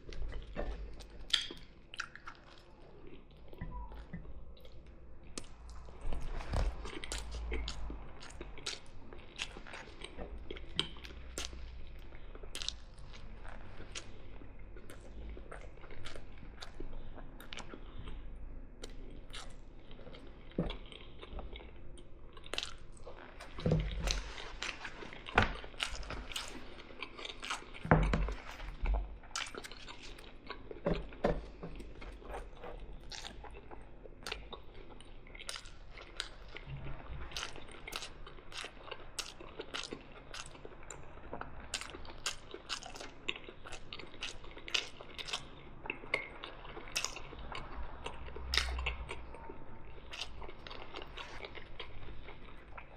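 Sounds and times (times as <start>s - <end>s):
person chewing and crunching: 0.0s - 52.9s.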